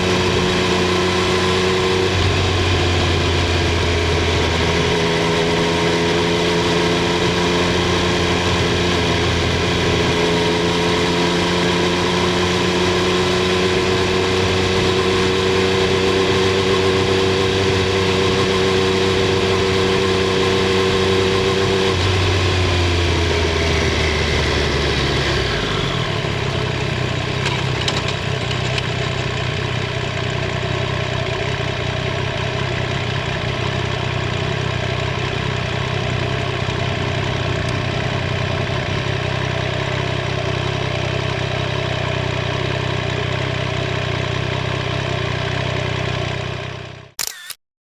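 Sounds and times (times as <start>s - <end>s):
motorcycle engine and exhaust: 0.0s - 47.1s.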